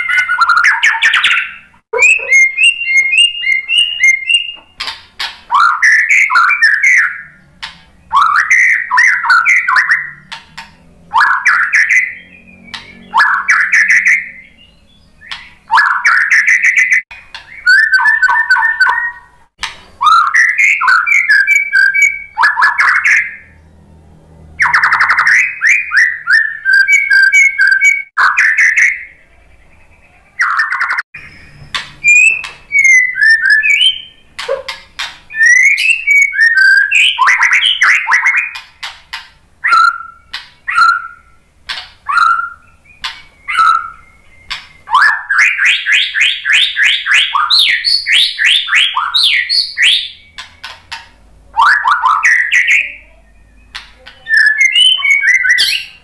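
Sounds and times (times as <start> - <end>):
bird singing whistled phrases: 0.0 - 4.9, 5.5 - 7.4, 8.0 - 10.4, 11.1 - 19.4, 20.0 - 23.6, 24.6 - 38.6, 39.6 - 41.4, 42.0 - 50.8, 51.6 - 56.0.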